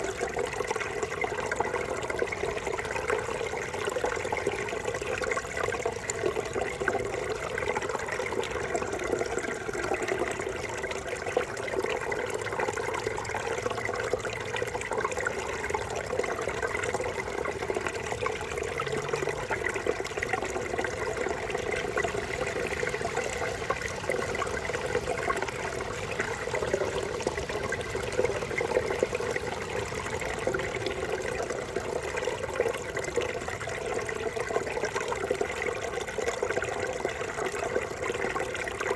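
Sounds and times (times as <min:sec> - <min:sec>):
brook babbling over rocks: 0:00.0 - 0:38.9.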